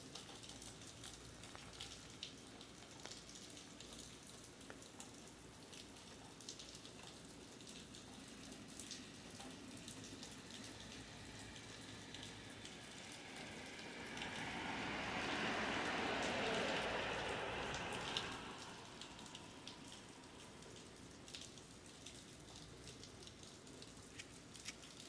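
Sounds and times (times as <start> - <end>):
rain on pavement: 0.0 - 25.0.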